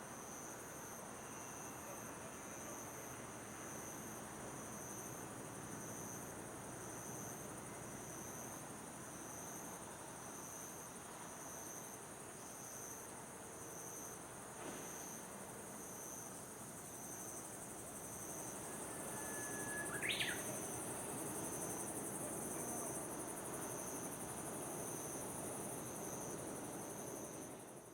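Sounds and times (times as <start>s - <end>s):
steady background hiss: 0.0s - 27.9s
crickets chirping: 0.1s - 27.9s.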